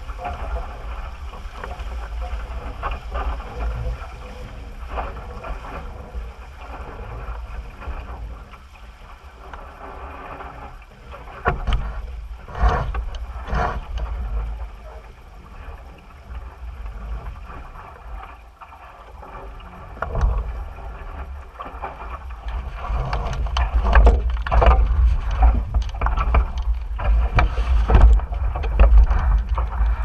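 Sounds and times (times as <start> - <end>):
wind buffeting microphone: 0.0 - 18.3, 22.0 - 30.0
water splashing against hull: 0.0 - 30.0.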